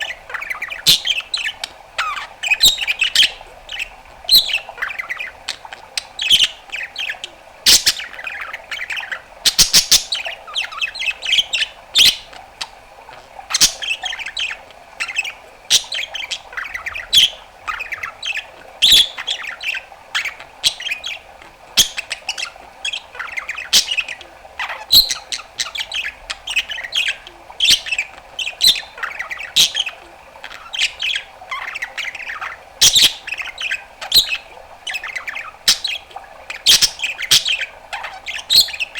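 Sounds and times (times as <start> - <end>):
budgerigar warbling: 0.0 - 38.9.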